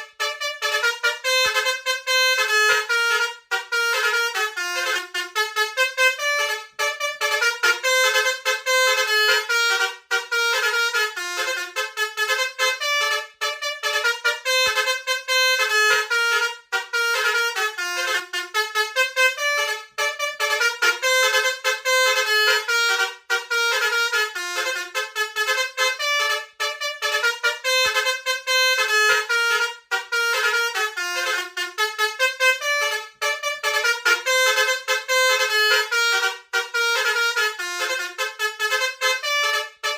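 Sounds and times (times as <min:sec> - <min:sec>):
air horn melody: 0:00.0 - 0:39.9.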